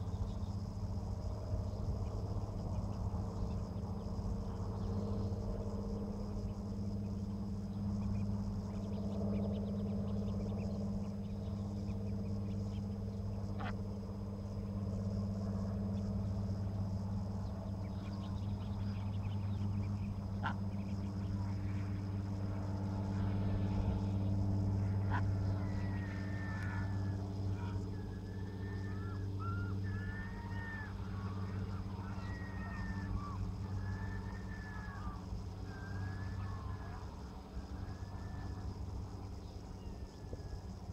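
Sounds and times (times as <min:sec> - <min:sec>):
low engine hum: 0:00.0 - 0:40.9.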